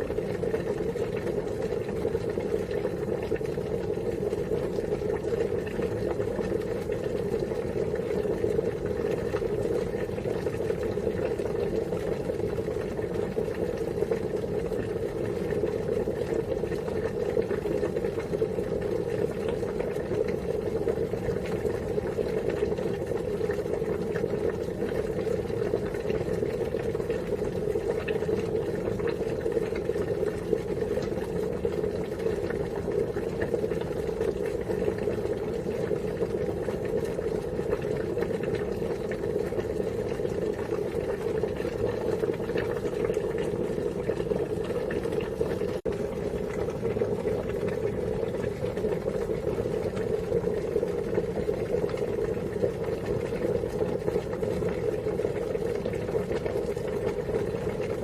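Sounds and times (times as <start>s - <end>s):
water boiling: 0.0s - 58.0s.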